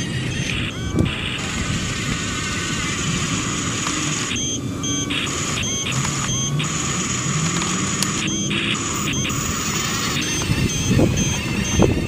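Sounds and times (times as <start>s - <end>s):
high electronic tones: 0.0s - 12.0s
toy bulldozer motors whirring: 0.0s - 12.0s.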